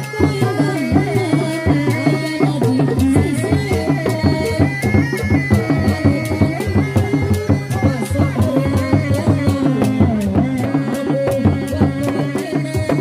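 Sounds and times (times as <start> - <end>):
wavering melody line: 0.0 - 12.8
frame drums beating fast: 0.0 - 13.0.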